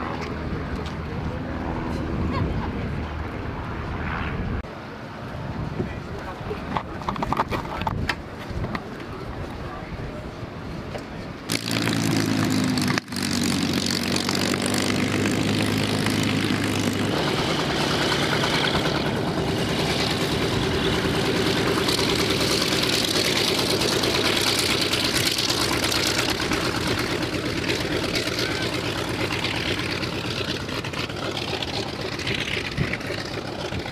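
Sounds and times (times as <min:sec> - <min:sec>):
propeller engine droning: 0:00.0 - 0:07.2, 0:08.2 - 0:33.9.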